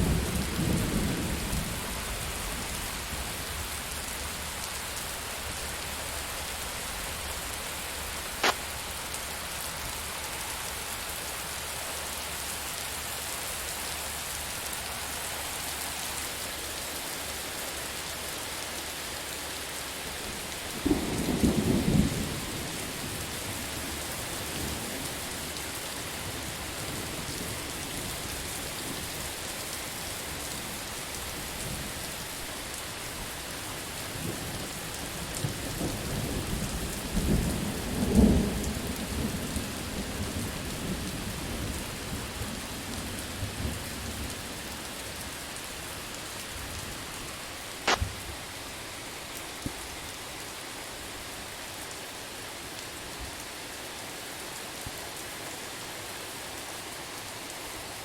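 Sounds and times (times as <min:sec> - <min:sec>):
heavy rain hissing: 0:00.0 - 0:52.8.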